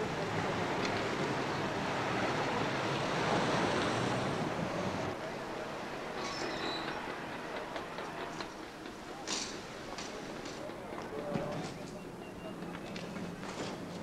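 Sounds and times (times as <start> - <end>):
street traffic rushing: 0.0 - 14.0.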